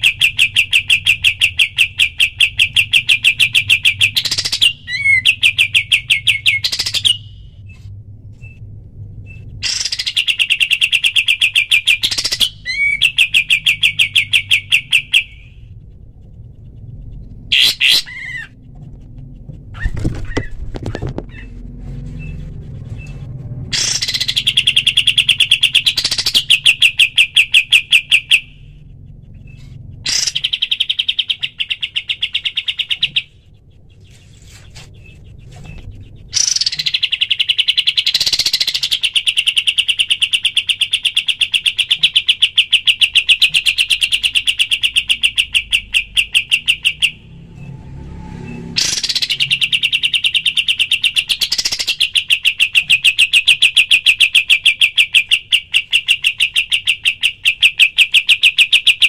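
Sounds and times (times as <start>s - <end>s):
bird singing rapid notes: 0.0s - 7.8s, 8.4s - 47.5s, 48.4s - 59.0s
steady low hum: 0.0s - 58.4s.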